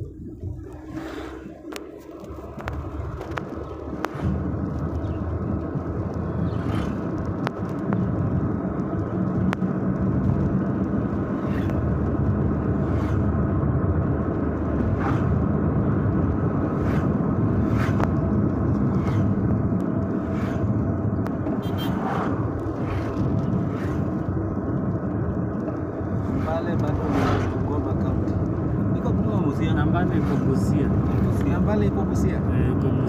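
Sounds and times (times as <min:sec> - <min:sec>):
car interior road rumble: 0:00.0 - 0:33.0.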